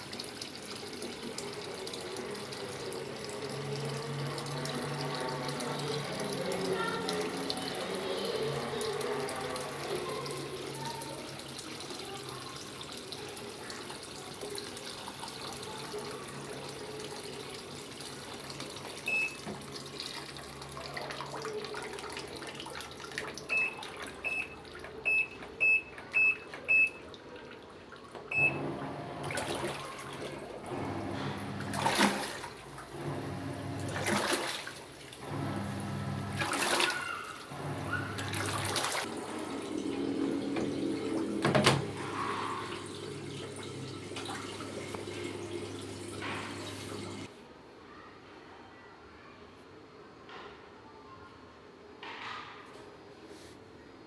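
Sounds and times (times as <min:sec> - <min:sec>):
water rushing into washing machine: 0:00.0 - 0:47.4.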